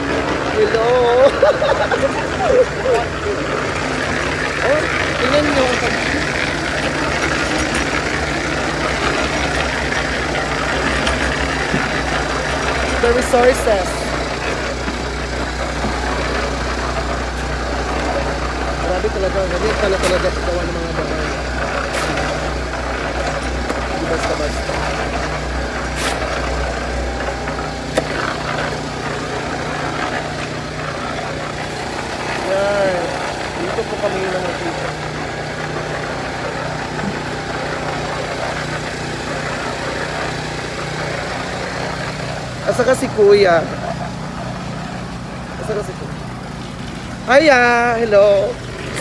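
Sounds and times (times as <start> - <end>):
machinery engine idling: 0.0 - 49.0.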